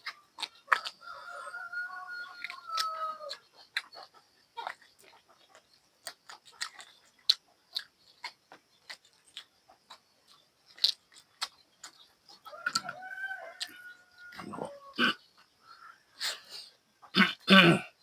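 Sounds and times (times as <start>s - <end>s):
crunchy chewing of bony meat: 0.0s - 16.4s.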